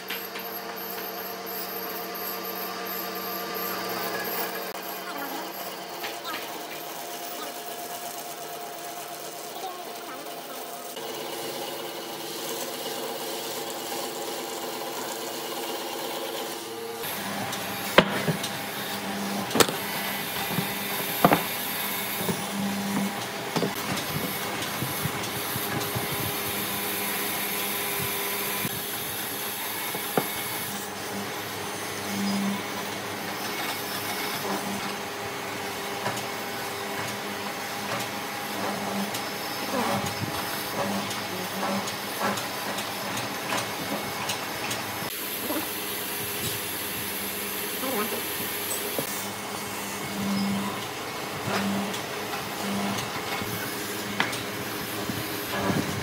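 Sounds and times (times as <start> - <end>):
woodworking machine running: 0.0 - 56.0.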